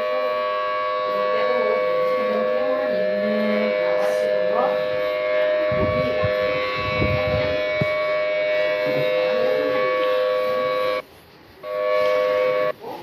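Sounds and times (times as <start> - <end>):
warning siren two-note chord: 0.0 - 11.0, 11.6 - 12.8.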